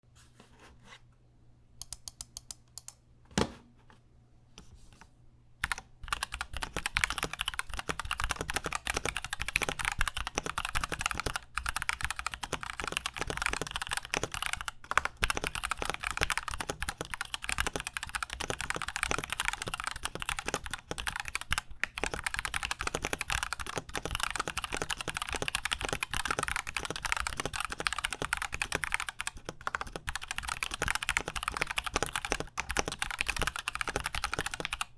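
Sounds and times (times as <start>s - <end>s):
mechanical keyboard typing: 1.8s - 3.0s, 5.6s - 34.9s.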